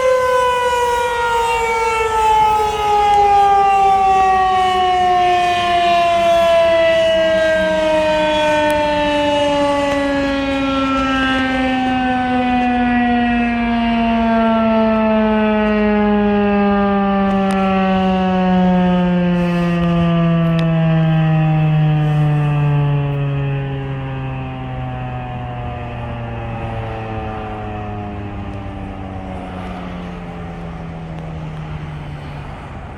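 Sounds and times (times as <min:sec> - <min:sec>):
warning siren winding down: 0:00.0 - 0:32.9.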